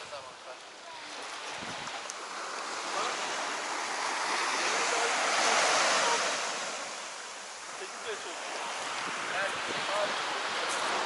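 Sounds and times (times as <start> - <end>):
sea waves washing on shore: 0.0 - 11.0.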